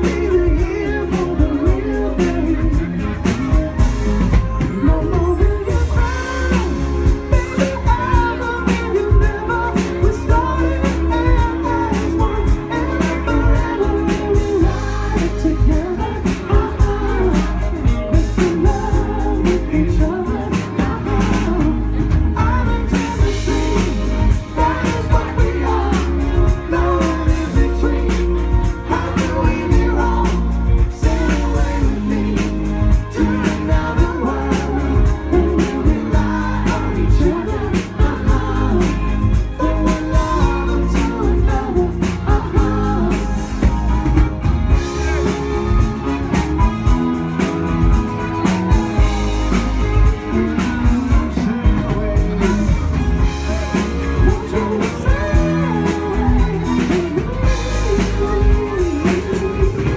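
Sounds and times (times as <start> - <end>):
lead singer singing: 0.0 - 59.9
live band playing soft rock: 0.0 - 59.9.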